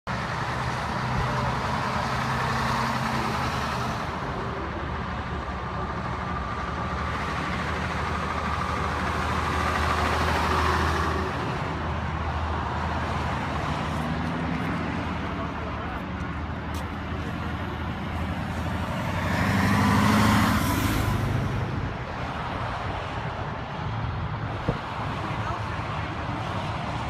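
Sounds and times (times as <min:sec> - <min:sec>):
motorway traffic: 0:00.0 - 0:27.0
trucks driving past: 0:00.1 - 0:27.0.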